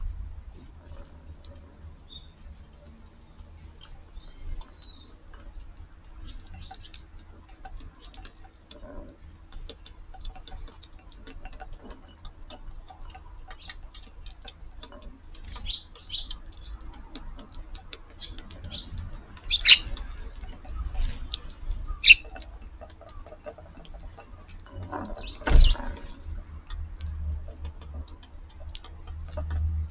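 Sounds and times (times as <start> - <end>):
sparrows chirping: 0.9 - 29.9.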